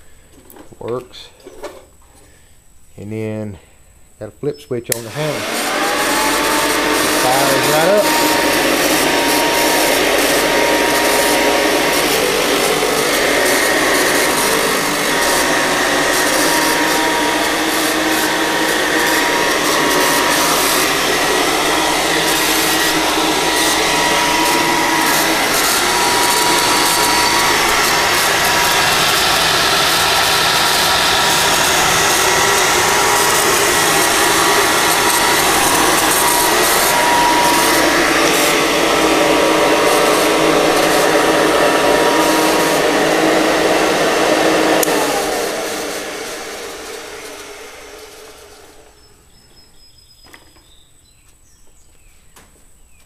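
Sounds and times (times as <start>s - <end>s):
vacuum cleaner motor running: 4.9s - 50.8s.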